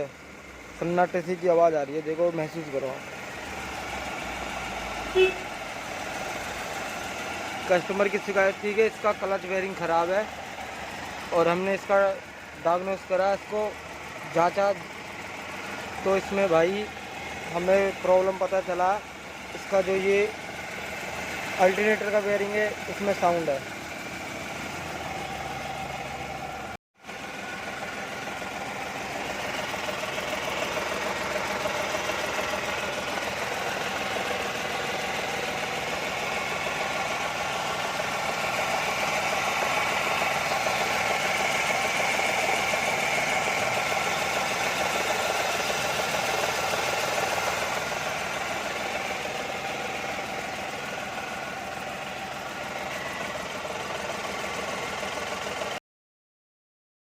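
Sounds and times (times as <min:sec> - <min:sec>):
alternator bearing noise: 0:00.0 - 0:55.8
car engine idling: 0:00.0 - 0:55.8.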